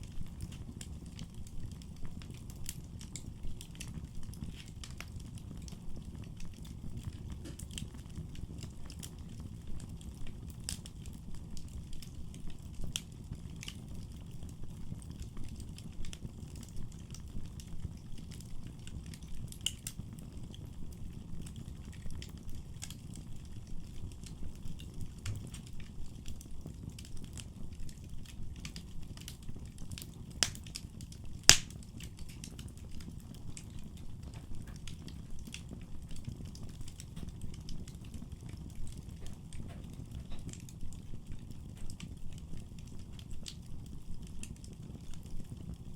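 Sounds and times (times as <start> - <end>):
fire crackling and popping: 0.0 - 45.9
fire rumbling in fireplace: 0.0 - 45.9.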